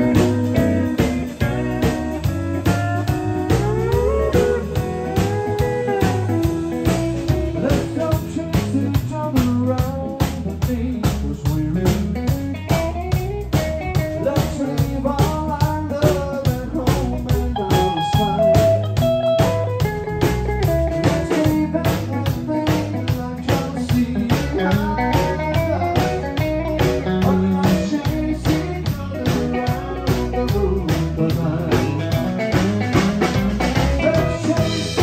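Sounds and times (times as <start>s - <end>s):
live country band: 0.0s - 35.0s
pedal steel guitar: 0.0s - 35.0s.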